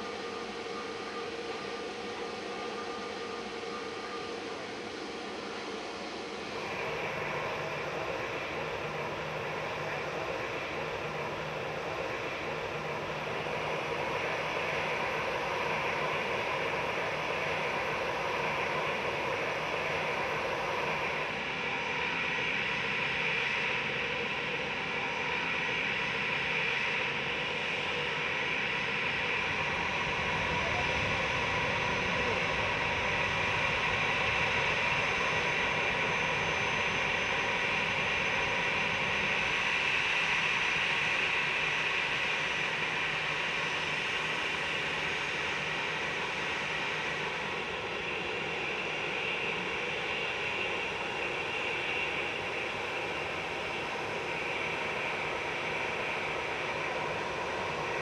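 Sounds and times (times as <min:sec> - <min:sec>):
jet engines rushing and whining: 0:00.0 - 0:58.0.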